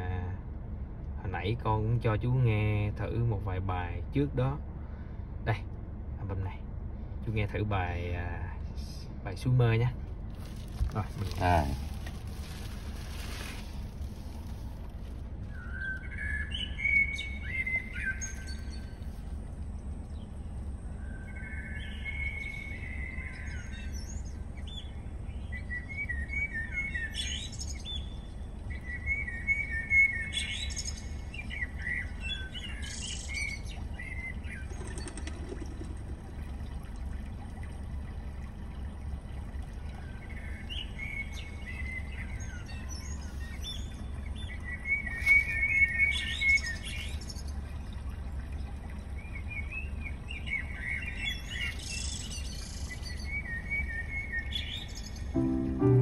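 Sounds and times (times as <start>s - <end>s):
recorded birdsong through speakers: 0.0s - 56.0s
steady low hum: 0.0s - 56.0s.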